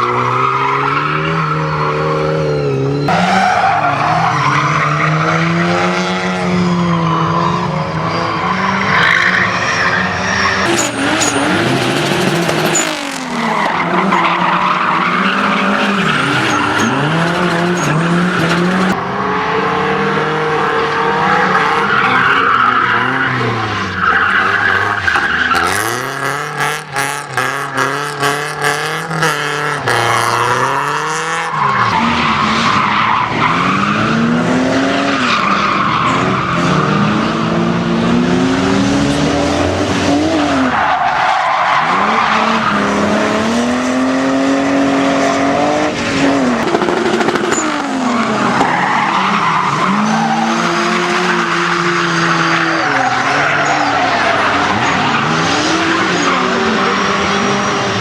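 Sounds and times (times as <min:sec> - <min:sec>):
car engine revving hard: 0:00.0 - 0:58.0
tyres skidding and squealing: 0:00.0 - 0:58.0.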